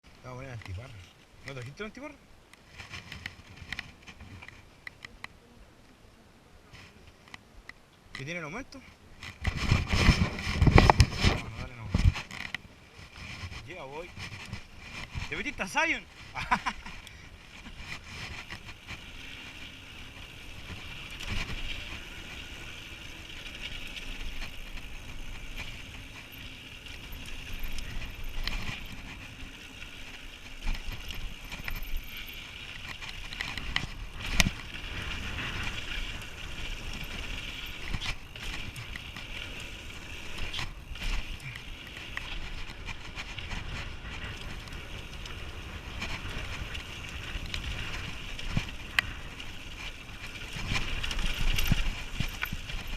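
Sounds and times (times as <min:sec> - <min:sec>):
mountain bike tyre and drivetrain noise: 0:00.0 - 0:52.9
bike knocking and rattling on bumps: 0:09.2 - 0:52.9.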